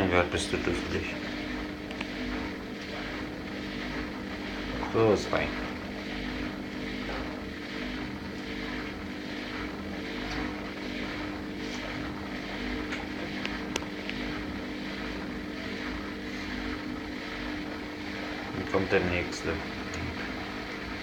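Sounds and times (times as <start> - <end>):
mechanical hum with low tone: 0.0 - 21.0.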